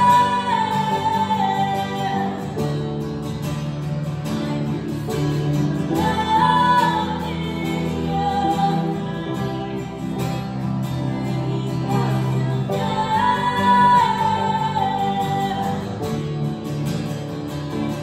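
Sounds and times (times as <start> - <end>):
woman singing: 0.0 - 3.0, 4.5 - 16.3
acoustic guitar: 0.0 - 18.0.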